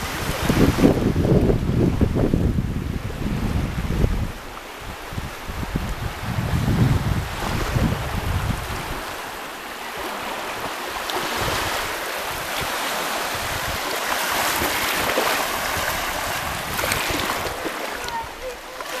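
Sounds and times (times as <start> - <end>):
small waves washing on sand: 0.0 - 19.0
wind buffeting microphone: 0.0 - 19.0.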